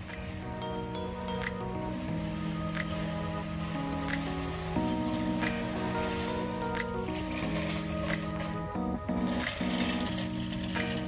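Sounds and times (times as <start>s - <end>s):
background music with held chords: 0.0s - 11.0s.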